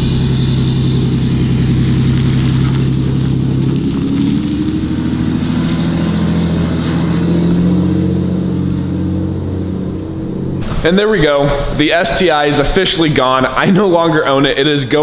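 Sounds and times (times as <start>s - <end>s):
pickup engine accelerating: 0.0s - 15.0s.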